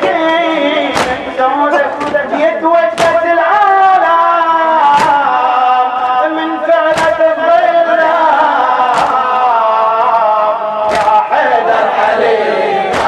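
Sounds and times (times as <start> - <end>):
crowd striking chests: 0.0 - 13.0
man chanting a lament: 0.0 - 13.0.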